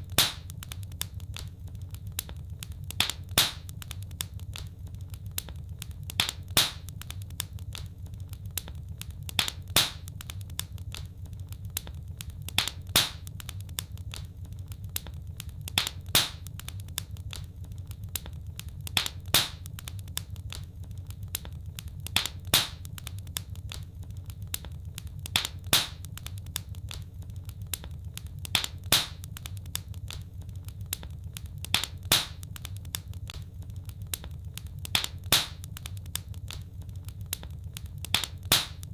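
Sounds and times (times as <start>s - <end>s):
low fire rumble: 0.0s - 38.9s
wood fire crackling and popping: 0.0s - 38.9s.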